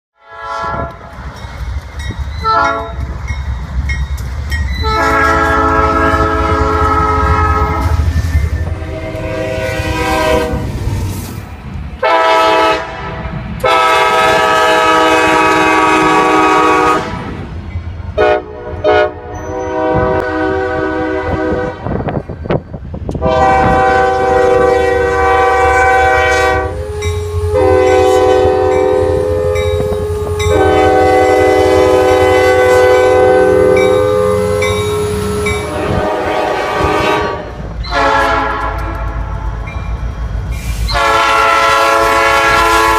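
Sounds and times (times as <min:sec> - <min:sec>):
locomotive air horn blasts: 0:00.2 - 0:01.1, 0:02.4 - 0:03.1, 0:04.8 - 0:10.8, 0:12.0 - 0:17.3, 0:18.2 - 0:22.1, 0:23.2 - 0:39.3, 0:40.9 - 0:42.9.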